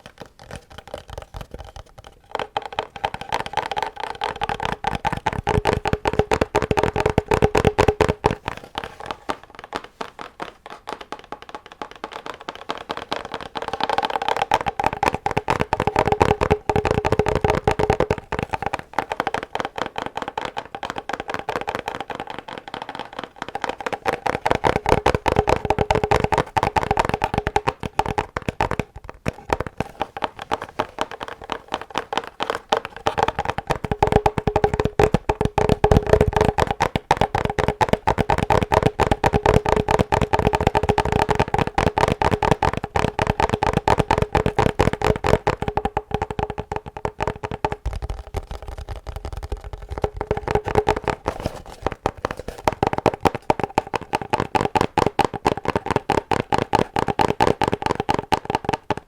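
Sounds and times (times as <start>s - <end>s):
fast tapping on hard object: 0.0s - 59.0s.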